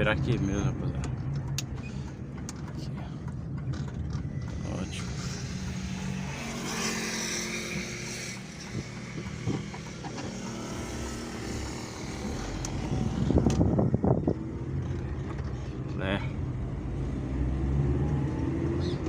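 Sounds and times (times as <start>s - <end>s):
car engine hum: 0.0s - 19.0s
road noise: 0.0s - 19.0s.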